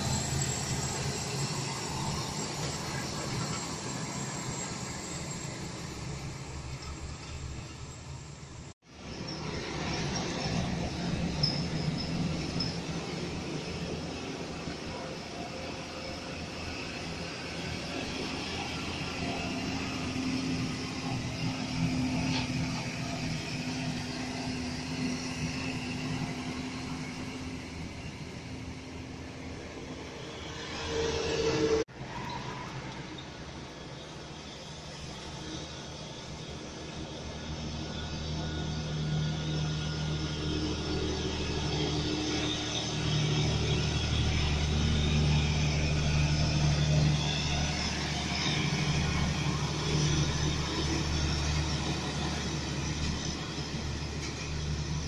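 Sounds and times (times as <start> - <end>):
truck diesel engine droning: 0.0 - 32.1, 32.8 - 55.0.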